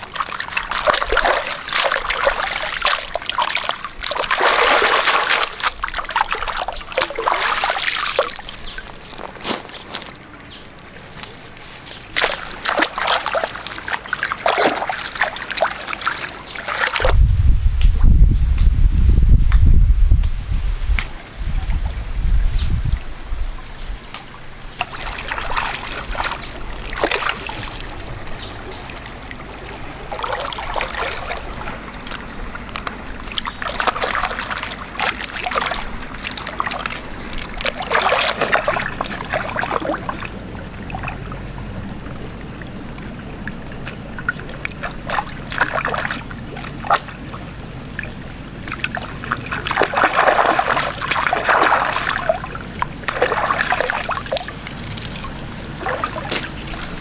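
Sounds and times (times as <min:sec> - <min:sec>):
stream trickling: 0:00.0 - 0:17.2, 0:21.0 - 0:57.0
water splashing and sloshing: 0:00.0 - 0:18.1, 0:20.3 - 0:57.0.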